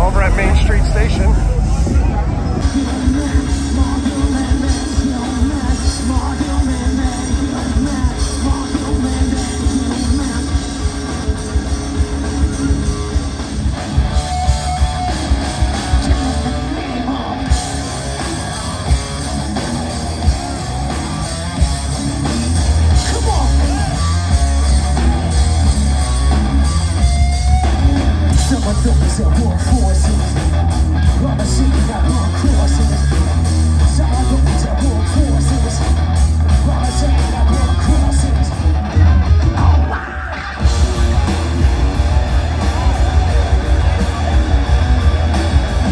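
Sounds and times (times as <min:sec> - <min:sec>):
bass guitar: 0:00.0 - 0:45.9
distorted electric guitars: 0:00.0 - 0:45.9
drum kit: 0:00.0 - 0:45.9.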